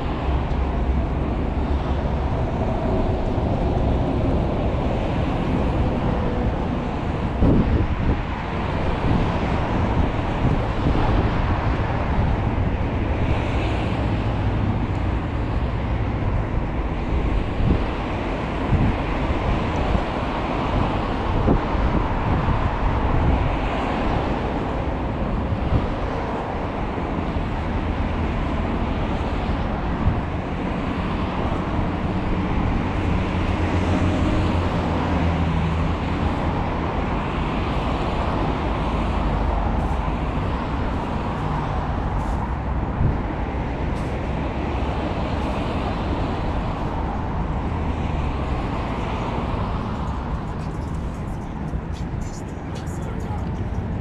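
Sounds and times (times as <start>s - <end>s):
road traffic hum: 0.0s - 54.0s
wind buffeting microphone: 0.0s - 54.0s.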